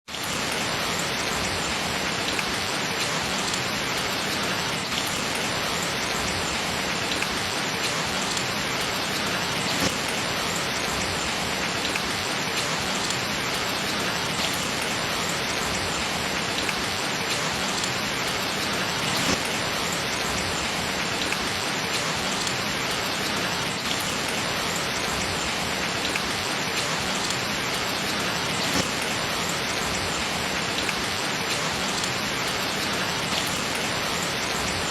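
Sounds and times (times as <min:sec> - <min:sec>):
rain falling on surfaces: 0:00.1 - 0:34.9.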